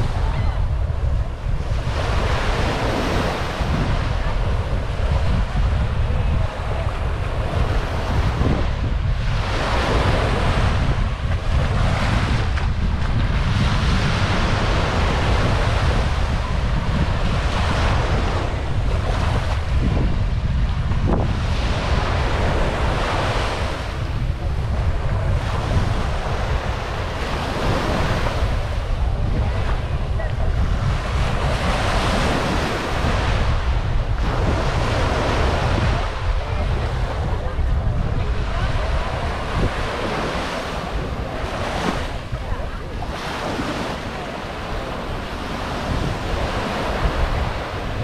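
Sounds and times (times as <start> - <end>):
waves washing onto sandy beach: 0.0 - 48.0
wind rumble on microphone: 0.0 - 48.0.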